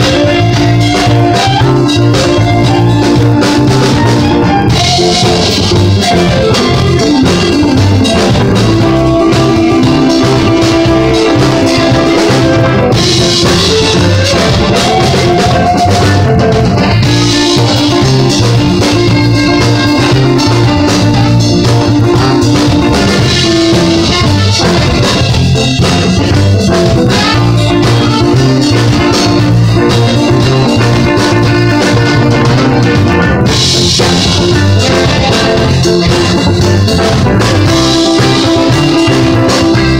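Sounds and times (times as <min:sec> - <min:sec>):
drum kit beat: 0:00.0 - 0:39.9
guitars: 0:00.0 - 0:39.9.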